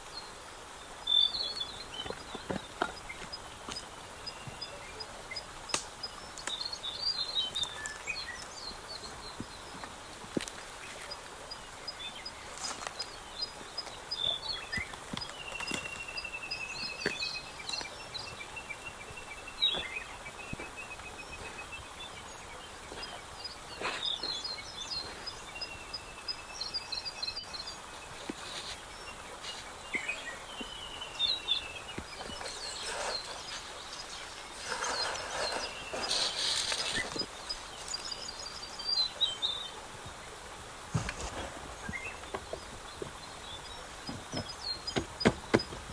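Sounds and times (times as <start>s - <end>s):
small birds calling: 0.0s - 45.9s
steady outdoor hiss: 0.0s - 45.9s.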